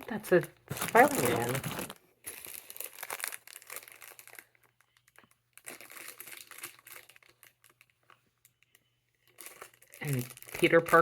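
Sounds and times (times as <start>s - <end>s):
plastic packaging crinkling: 0.1s - 11.0s.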